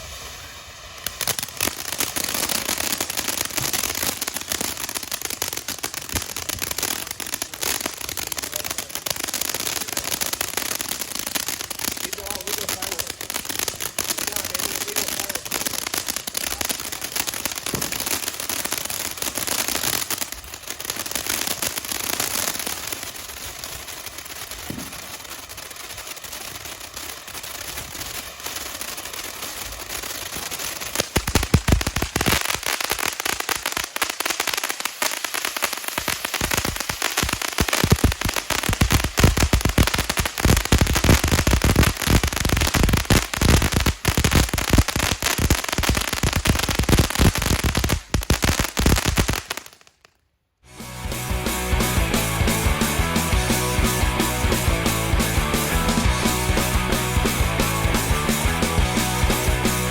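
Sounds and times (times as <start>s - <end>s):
firework fountain hissing: 0.0s - 49.8s, 50.7s - 59.9s
firework crackling pops: 0.0s - 59.9s.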